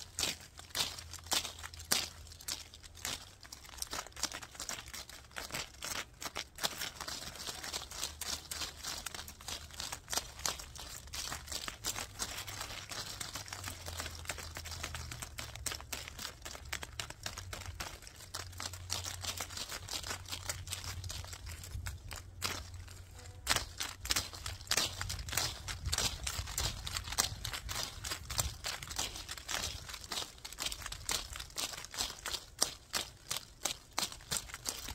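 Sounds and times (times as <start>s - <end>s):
leaves rustling against microphone: 0.0s - 34.9s.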